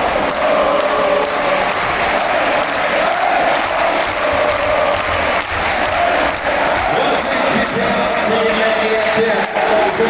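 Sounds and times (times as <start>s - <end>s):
crowd singing and chanting: 0.0s - 10.0s.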